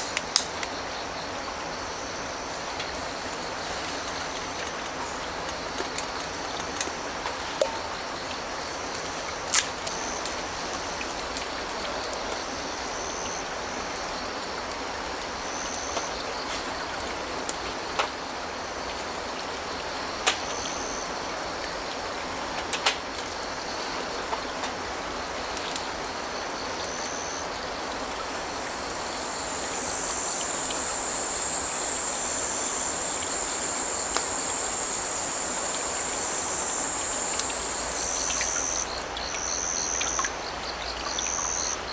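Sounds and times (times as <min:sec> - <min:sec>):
crickets chirping: 0:00.0 - 0:41.9
creek rushing: 0:01.6 - 0:41.9.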